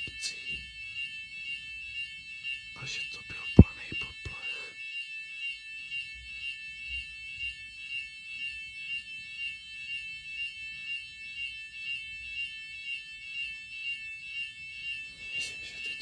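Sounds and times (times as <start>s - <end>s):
fire alarm high-pitched tone: 0.0s - 16.0s.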